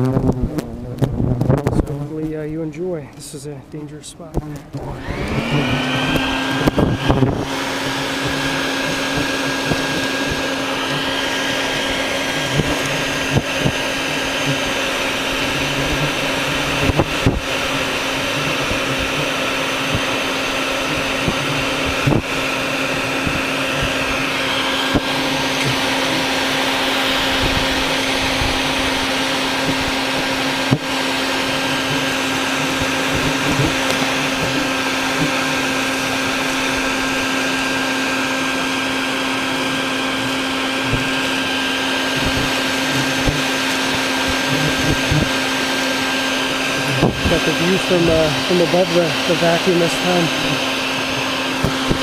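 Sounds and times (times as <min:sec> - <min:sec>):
vacuum cleaner running: 0:03.7 - 0:52.0.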